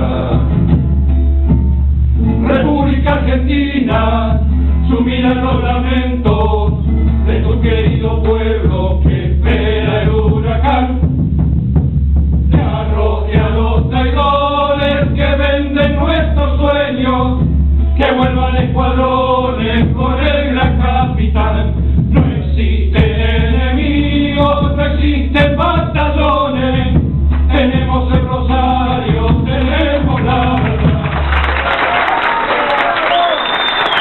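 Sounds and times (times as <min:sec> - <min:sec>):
men singing together: 0:00.0 - 0:00.6, 0:02.4 - 0:11.1, 0:12.5 - 0:31.7
acoustic guitar: 0:00.0 - 0:31.6
bass drum: 0:00.0 - 0:31.6.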